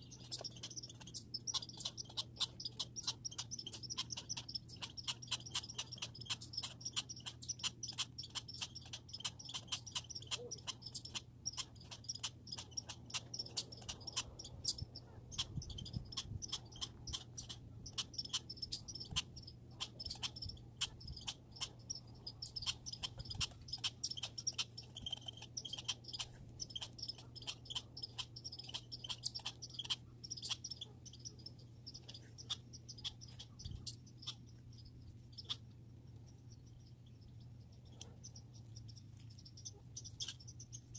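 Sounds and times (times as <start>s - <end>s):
faint low hum: 0.0s - 40.9s
squirrel chittering: 0.0s - 40.9s.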